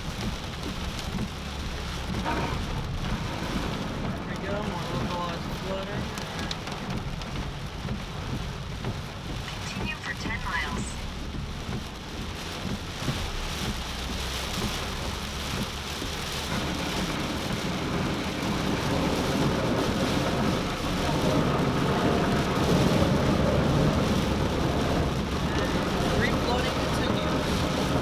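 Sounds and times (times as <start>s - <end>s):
deep rumble: 0.0s - 28.0s
heavy rain drumming on a car: 0.0s - 28.0s.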